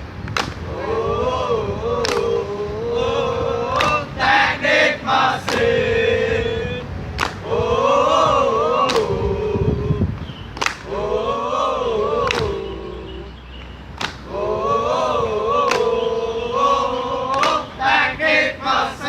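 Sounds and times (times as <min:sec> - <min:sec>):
crowd singing and chanting: 0:00.6 - 0:19.0.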